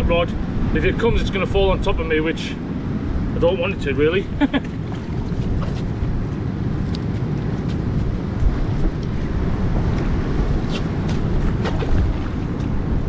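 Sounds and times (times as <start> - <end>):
surf from rough sea: 0.0 - 13.0
wind buffeting microphone: 0.0 - 13.0.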